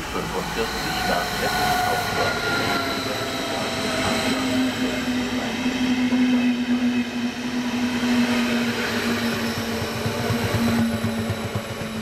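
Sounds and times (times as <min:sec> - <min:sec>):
train humming tone: 0:00.0 - 0:12.0
train rolling past: 0:00.0 - 0:12.0.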